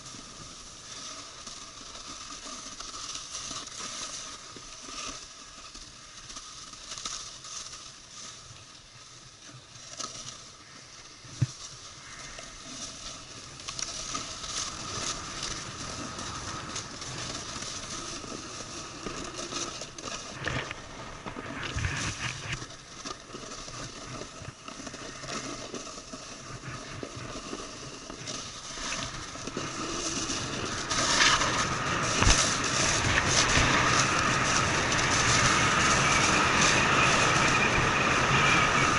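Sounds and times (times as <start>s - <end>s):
snowboard scraping over snow: 0.0s - 38.9s.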